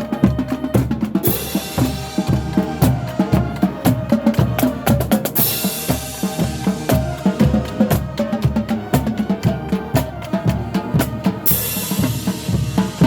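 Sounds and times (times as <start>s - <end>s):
drumline beating: 0.0s - 13.0s
marching band playing: 0.0s - 13.0s.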